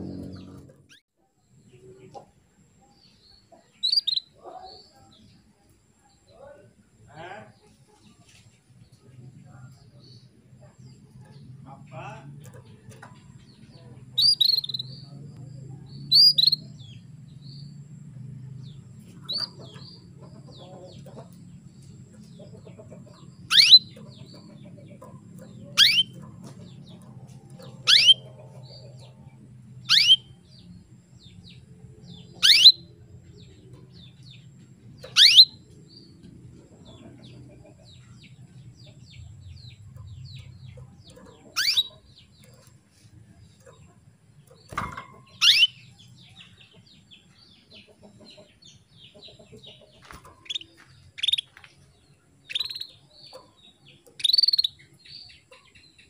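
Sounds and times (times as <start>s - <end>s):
canary chirping: 0.0s - 1.0s, 2.9s - 5.3s, 9.4s - 56.0s.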